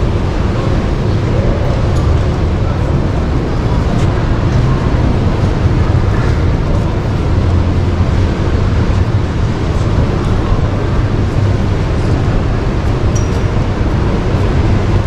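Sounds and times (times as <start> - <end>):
hall background rumble and hiss: 0.0 - 15.0.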